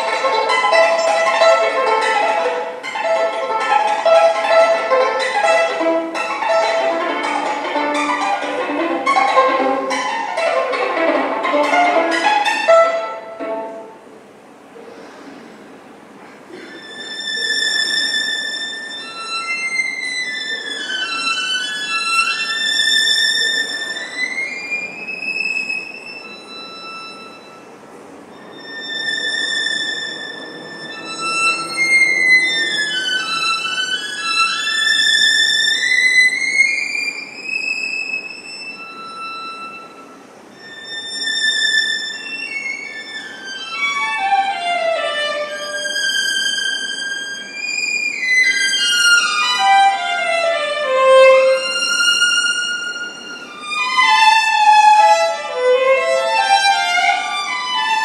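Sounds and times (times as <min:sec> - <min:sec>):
solo violin: 0:00.0 - 0:58.0.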